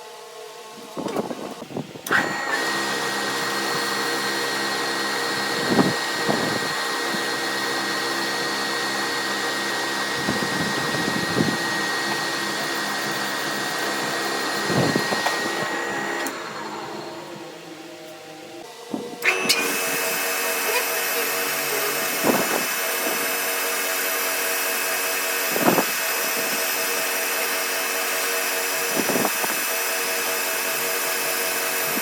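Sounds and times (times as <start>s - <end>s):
power tool motor whining: 0.8s - 32.0s.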